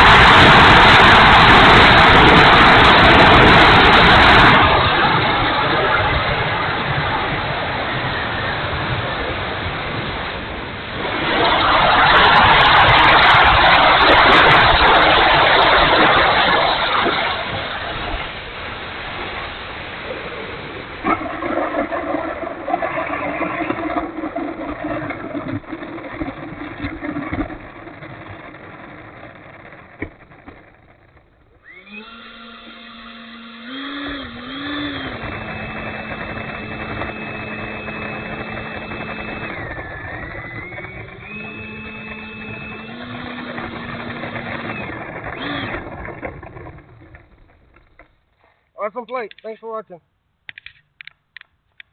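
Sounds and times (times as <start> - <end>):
ducted fan whine: 0.0 - 48.1.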